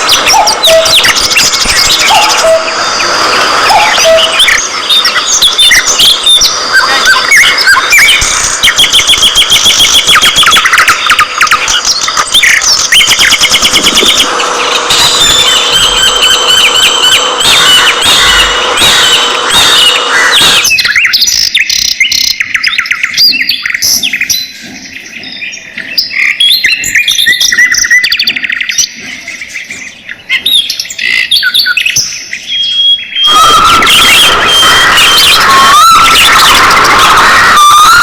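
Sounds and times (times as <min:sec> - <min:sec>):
budgerigars chattering: 0:00.0 - 0:38.0.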